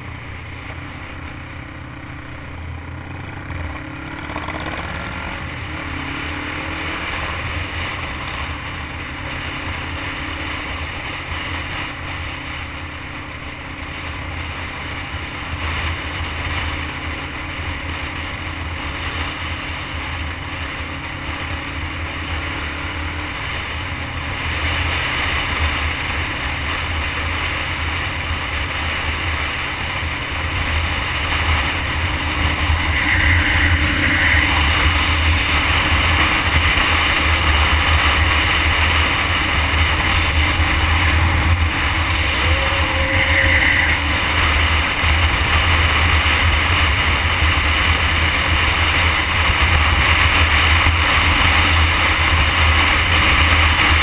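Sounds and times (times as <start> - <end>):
motorcycle engine rumble: 0.0 - 54.0
wind and road noise: 0.0 - 54.0.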